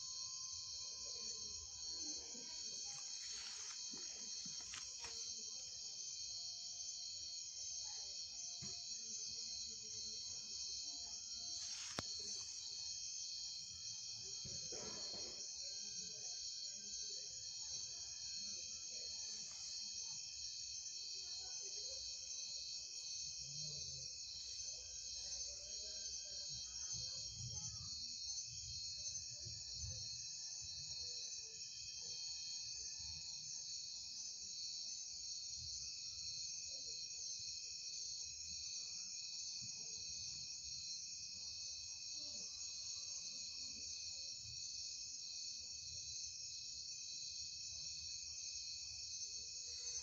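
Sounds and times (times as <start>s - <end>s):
crickets chirring: 0.0s - 32.0s, 32.6s - 50.0s.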